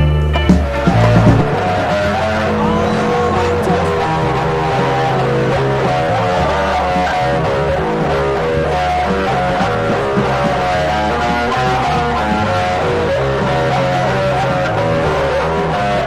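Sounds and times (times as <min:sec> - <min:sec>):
bass guitar line: 0:00.0 - 0:16.0
electric guitar sustained notes: 0:00.0 - 0:16.0.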